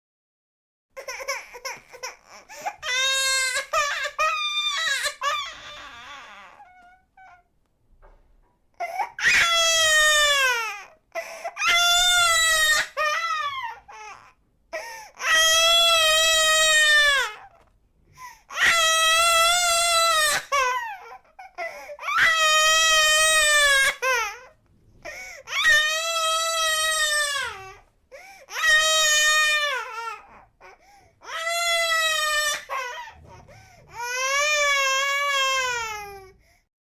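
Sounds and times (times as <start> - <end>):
baby crying: 1.0 - 7.5, 8.8 - 17.7, 18.5 - 36.4.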